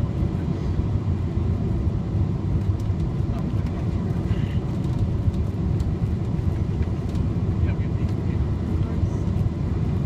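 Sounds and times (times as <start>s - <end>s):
jet engines and airflow rumble: 0.0s - 10.0s.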